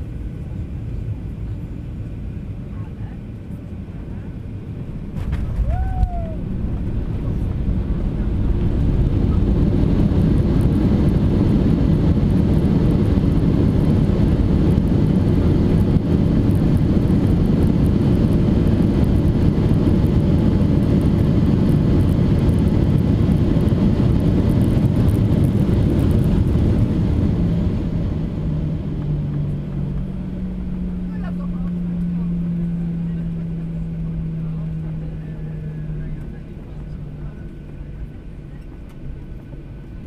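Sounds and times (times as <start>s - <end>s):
steady engine hum: 0.0s - 40.0s
jet engines roaring: 3.7s - 40.0s.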